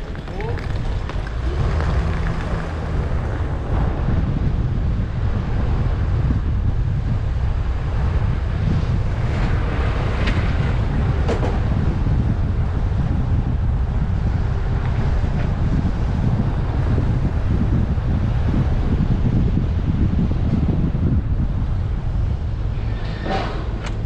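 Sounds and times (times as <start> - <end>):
car engine and road rumble: 0.0 - 24.0
wind buffeting microphone: 0.0 - 24.0.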